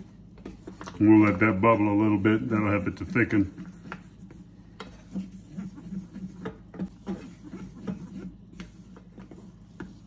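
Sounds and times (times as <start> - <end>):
wooden spoon stirring: 0.0 - 10.0.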